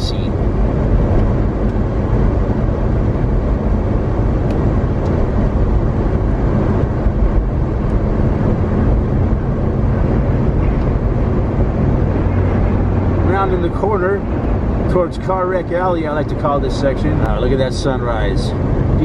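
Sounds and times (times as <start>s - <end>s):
car engine and tyre rumble: 0.0s - 19.0s
wind against vehicle: 0.0s - 19.0s.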